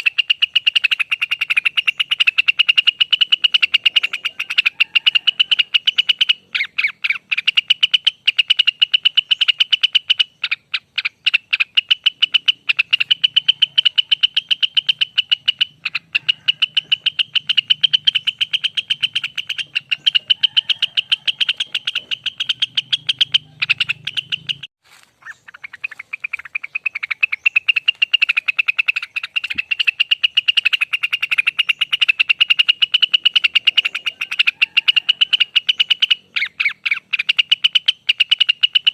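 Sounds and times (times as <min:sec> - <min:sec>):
bird singing rapid trill: 0:00.0 - 0:38.9.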